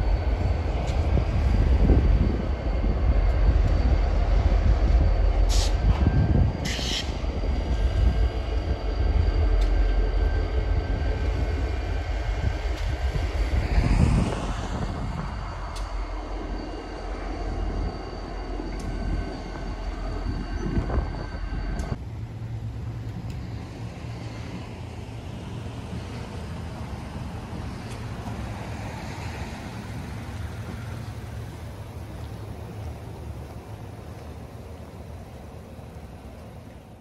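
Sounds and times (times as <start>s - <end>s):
train rumbling past: 0.0s - 37.0s
truck engine humming: 7.0s - 37.0s.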